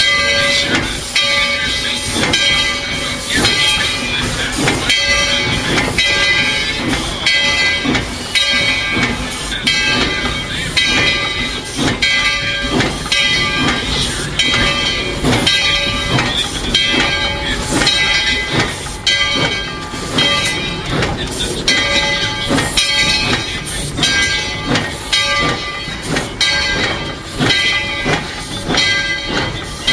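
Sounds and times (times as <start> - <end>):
rail clatter: 0.0 - 29.9
steam locomotive exhaust beats: 0.0 - 29.9.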